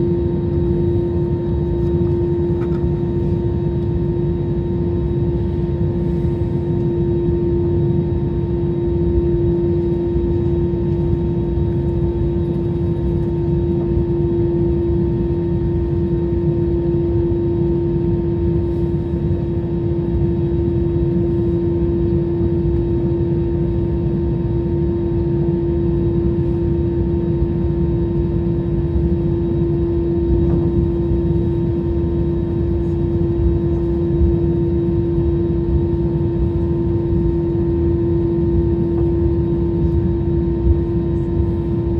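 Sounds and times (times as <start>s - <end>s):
jet airliner cabin rumble: 0.0s - 41.9s.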